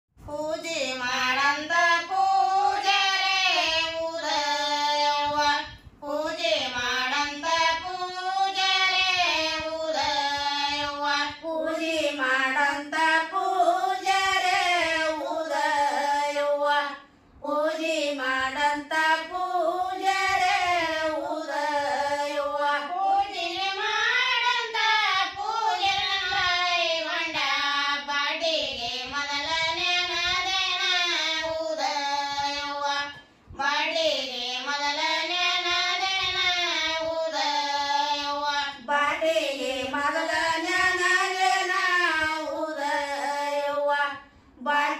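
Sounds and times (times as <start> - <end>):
women singing folk song: 0.3 - 44.9.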